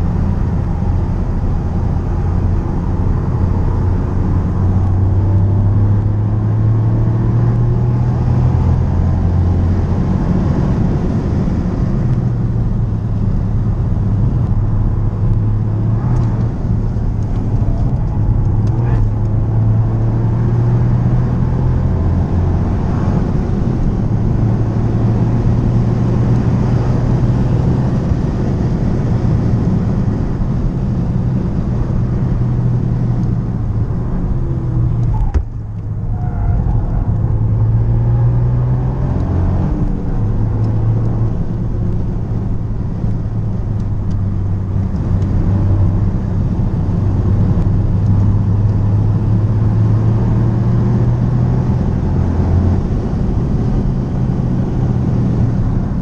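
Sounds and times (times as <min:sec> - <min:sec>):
car engine under load: 0:00.0 - 0:56.0.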